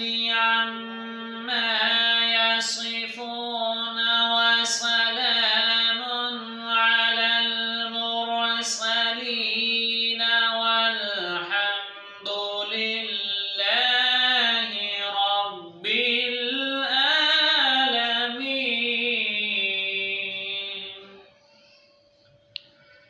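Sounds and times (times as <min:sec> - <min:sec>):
man chanting melodically: 0:00.0 - 0:21.8.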